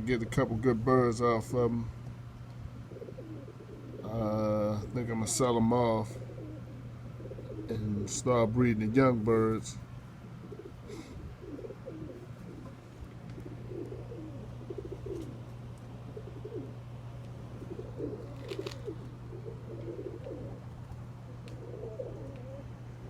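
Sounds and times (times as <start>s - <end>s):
pigeons cooing: 0.0s - 23.0s
steady low hum: 0.0s - 23.0s.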